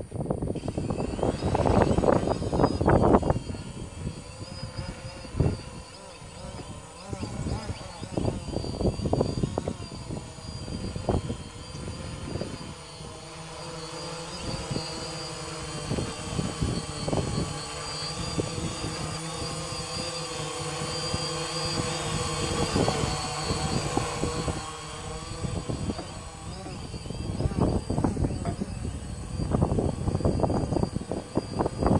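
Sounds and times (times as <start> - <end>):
drone propellers buzzing: 0.0 - 31.9
wind noise on microphone: 0.0 - 31.9.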